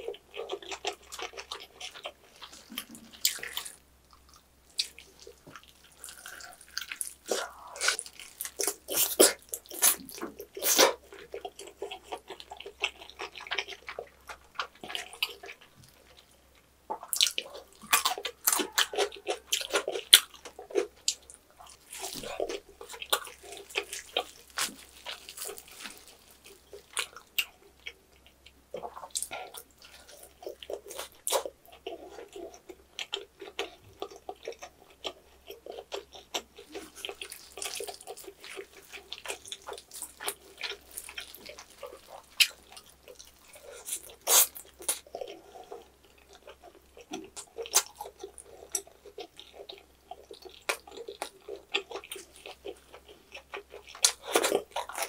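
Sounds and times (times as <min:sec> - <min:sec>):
wet chewing and mouth smacking: 0:00.0 - 0:55.0.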